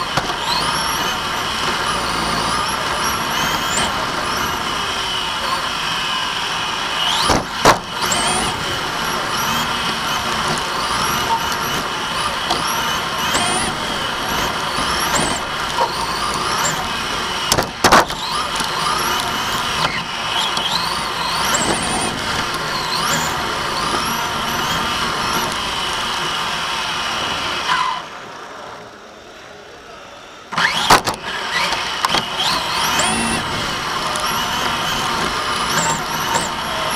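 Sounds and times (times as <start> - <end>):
electric motor whine: 0.0 - 28.6, 30.5 - 36.9.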